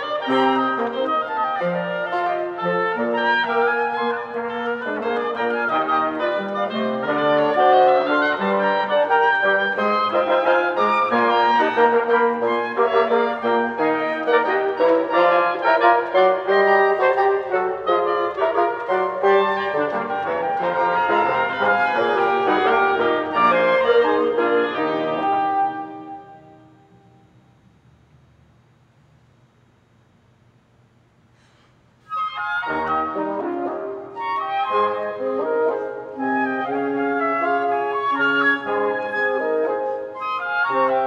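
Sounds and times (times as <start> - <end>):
wind quintet playing dance piece: 0.0 - 27.3, 32.0 - 41.0.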